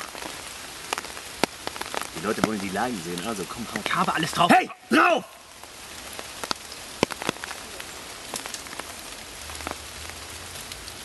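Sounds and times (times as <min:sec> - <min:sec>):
rain on foliage: 0:00.0 - 0:11.0.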